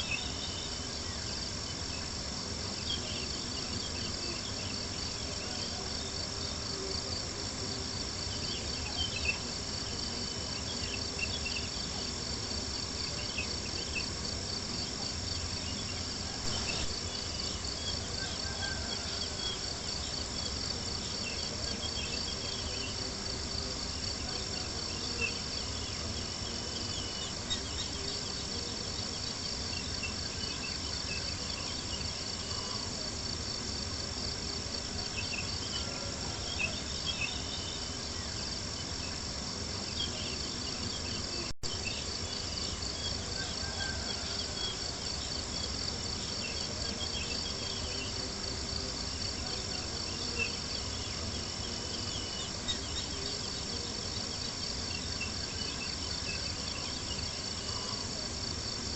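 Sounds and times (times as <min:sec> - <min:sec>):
crickets chirping: 0:00.0 - 0:58.9.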